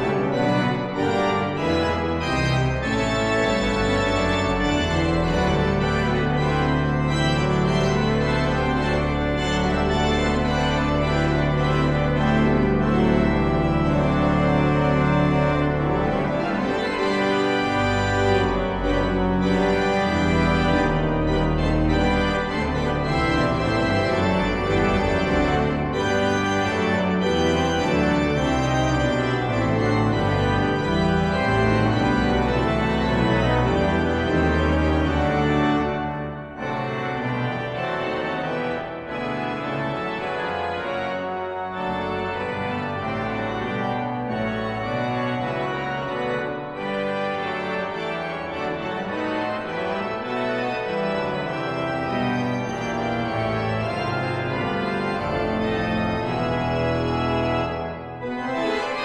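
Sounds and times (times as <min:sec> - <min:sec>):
pipe organ playing: 0:00.0 - 0:59.0.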